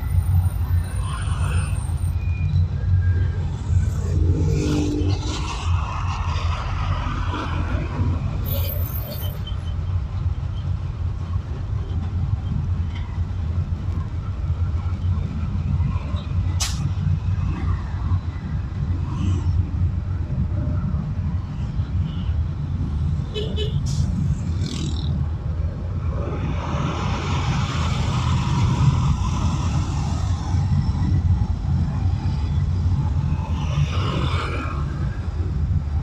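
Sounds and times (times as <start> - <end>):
car road noise rumble: 0.0 - 36.0.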